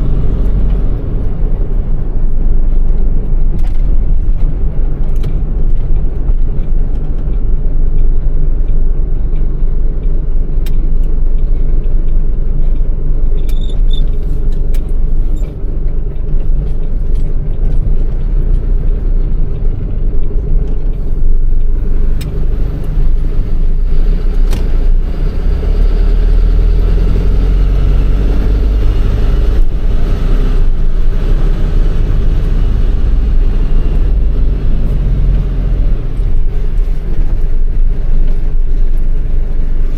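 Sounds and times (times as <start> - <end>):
diesel truck engine running: 0.0 - 39.9
road noise: 0.0 - 39.9.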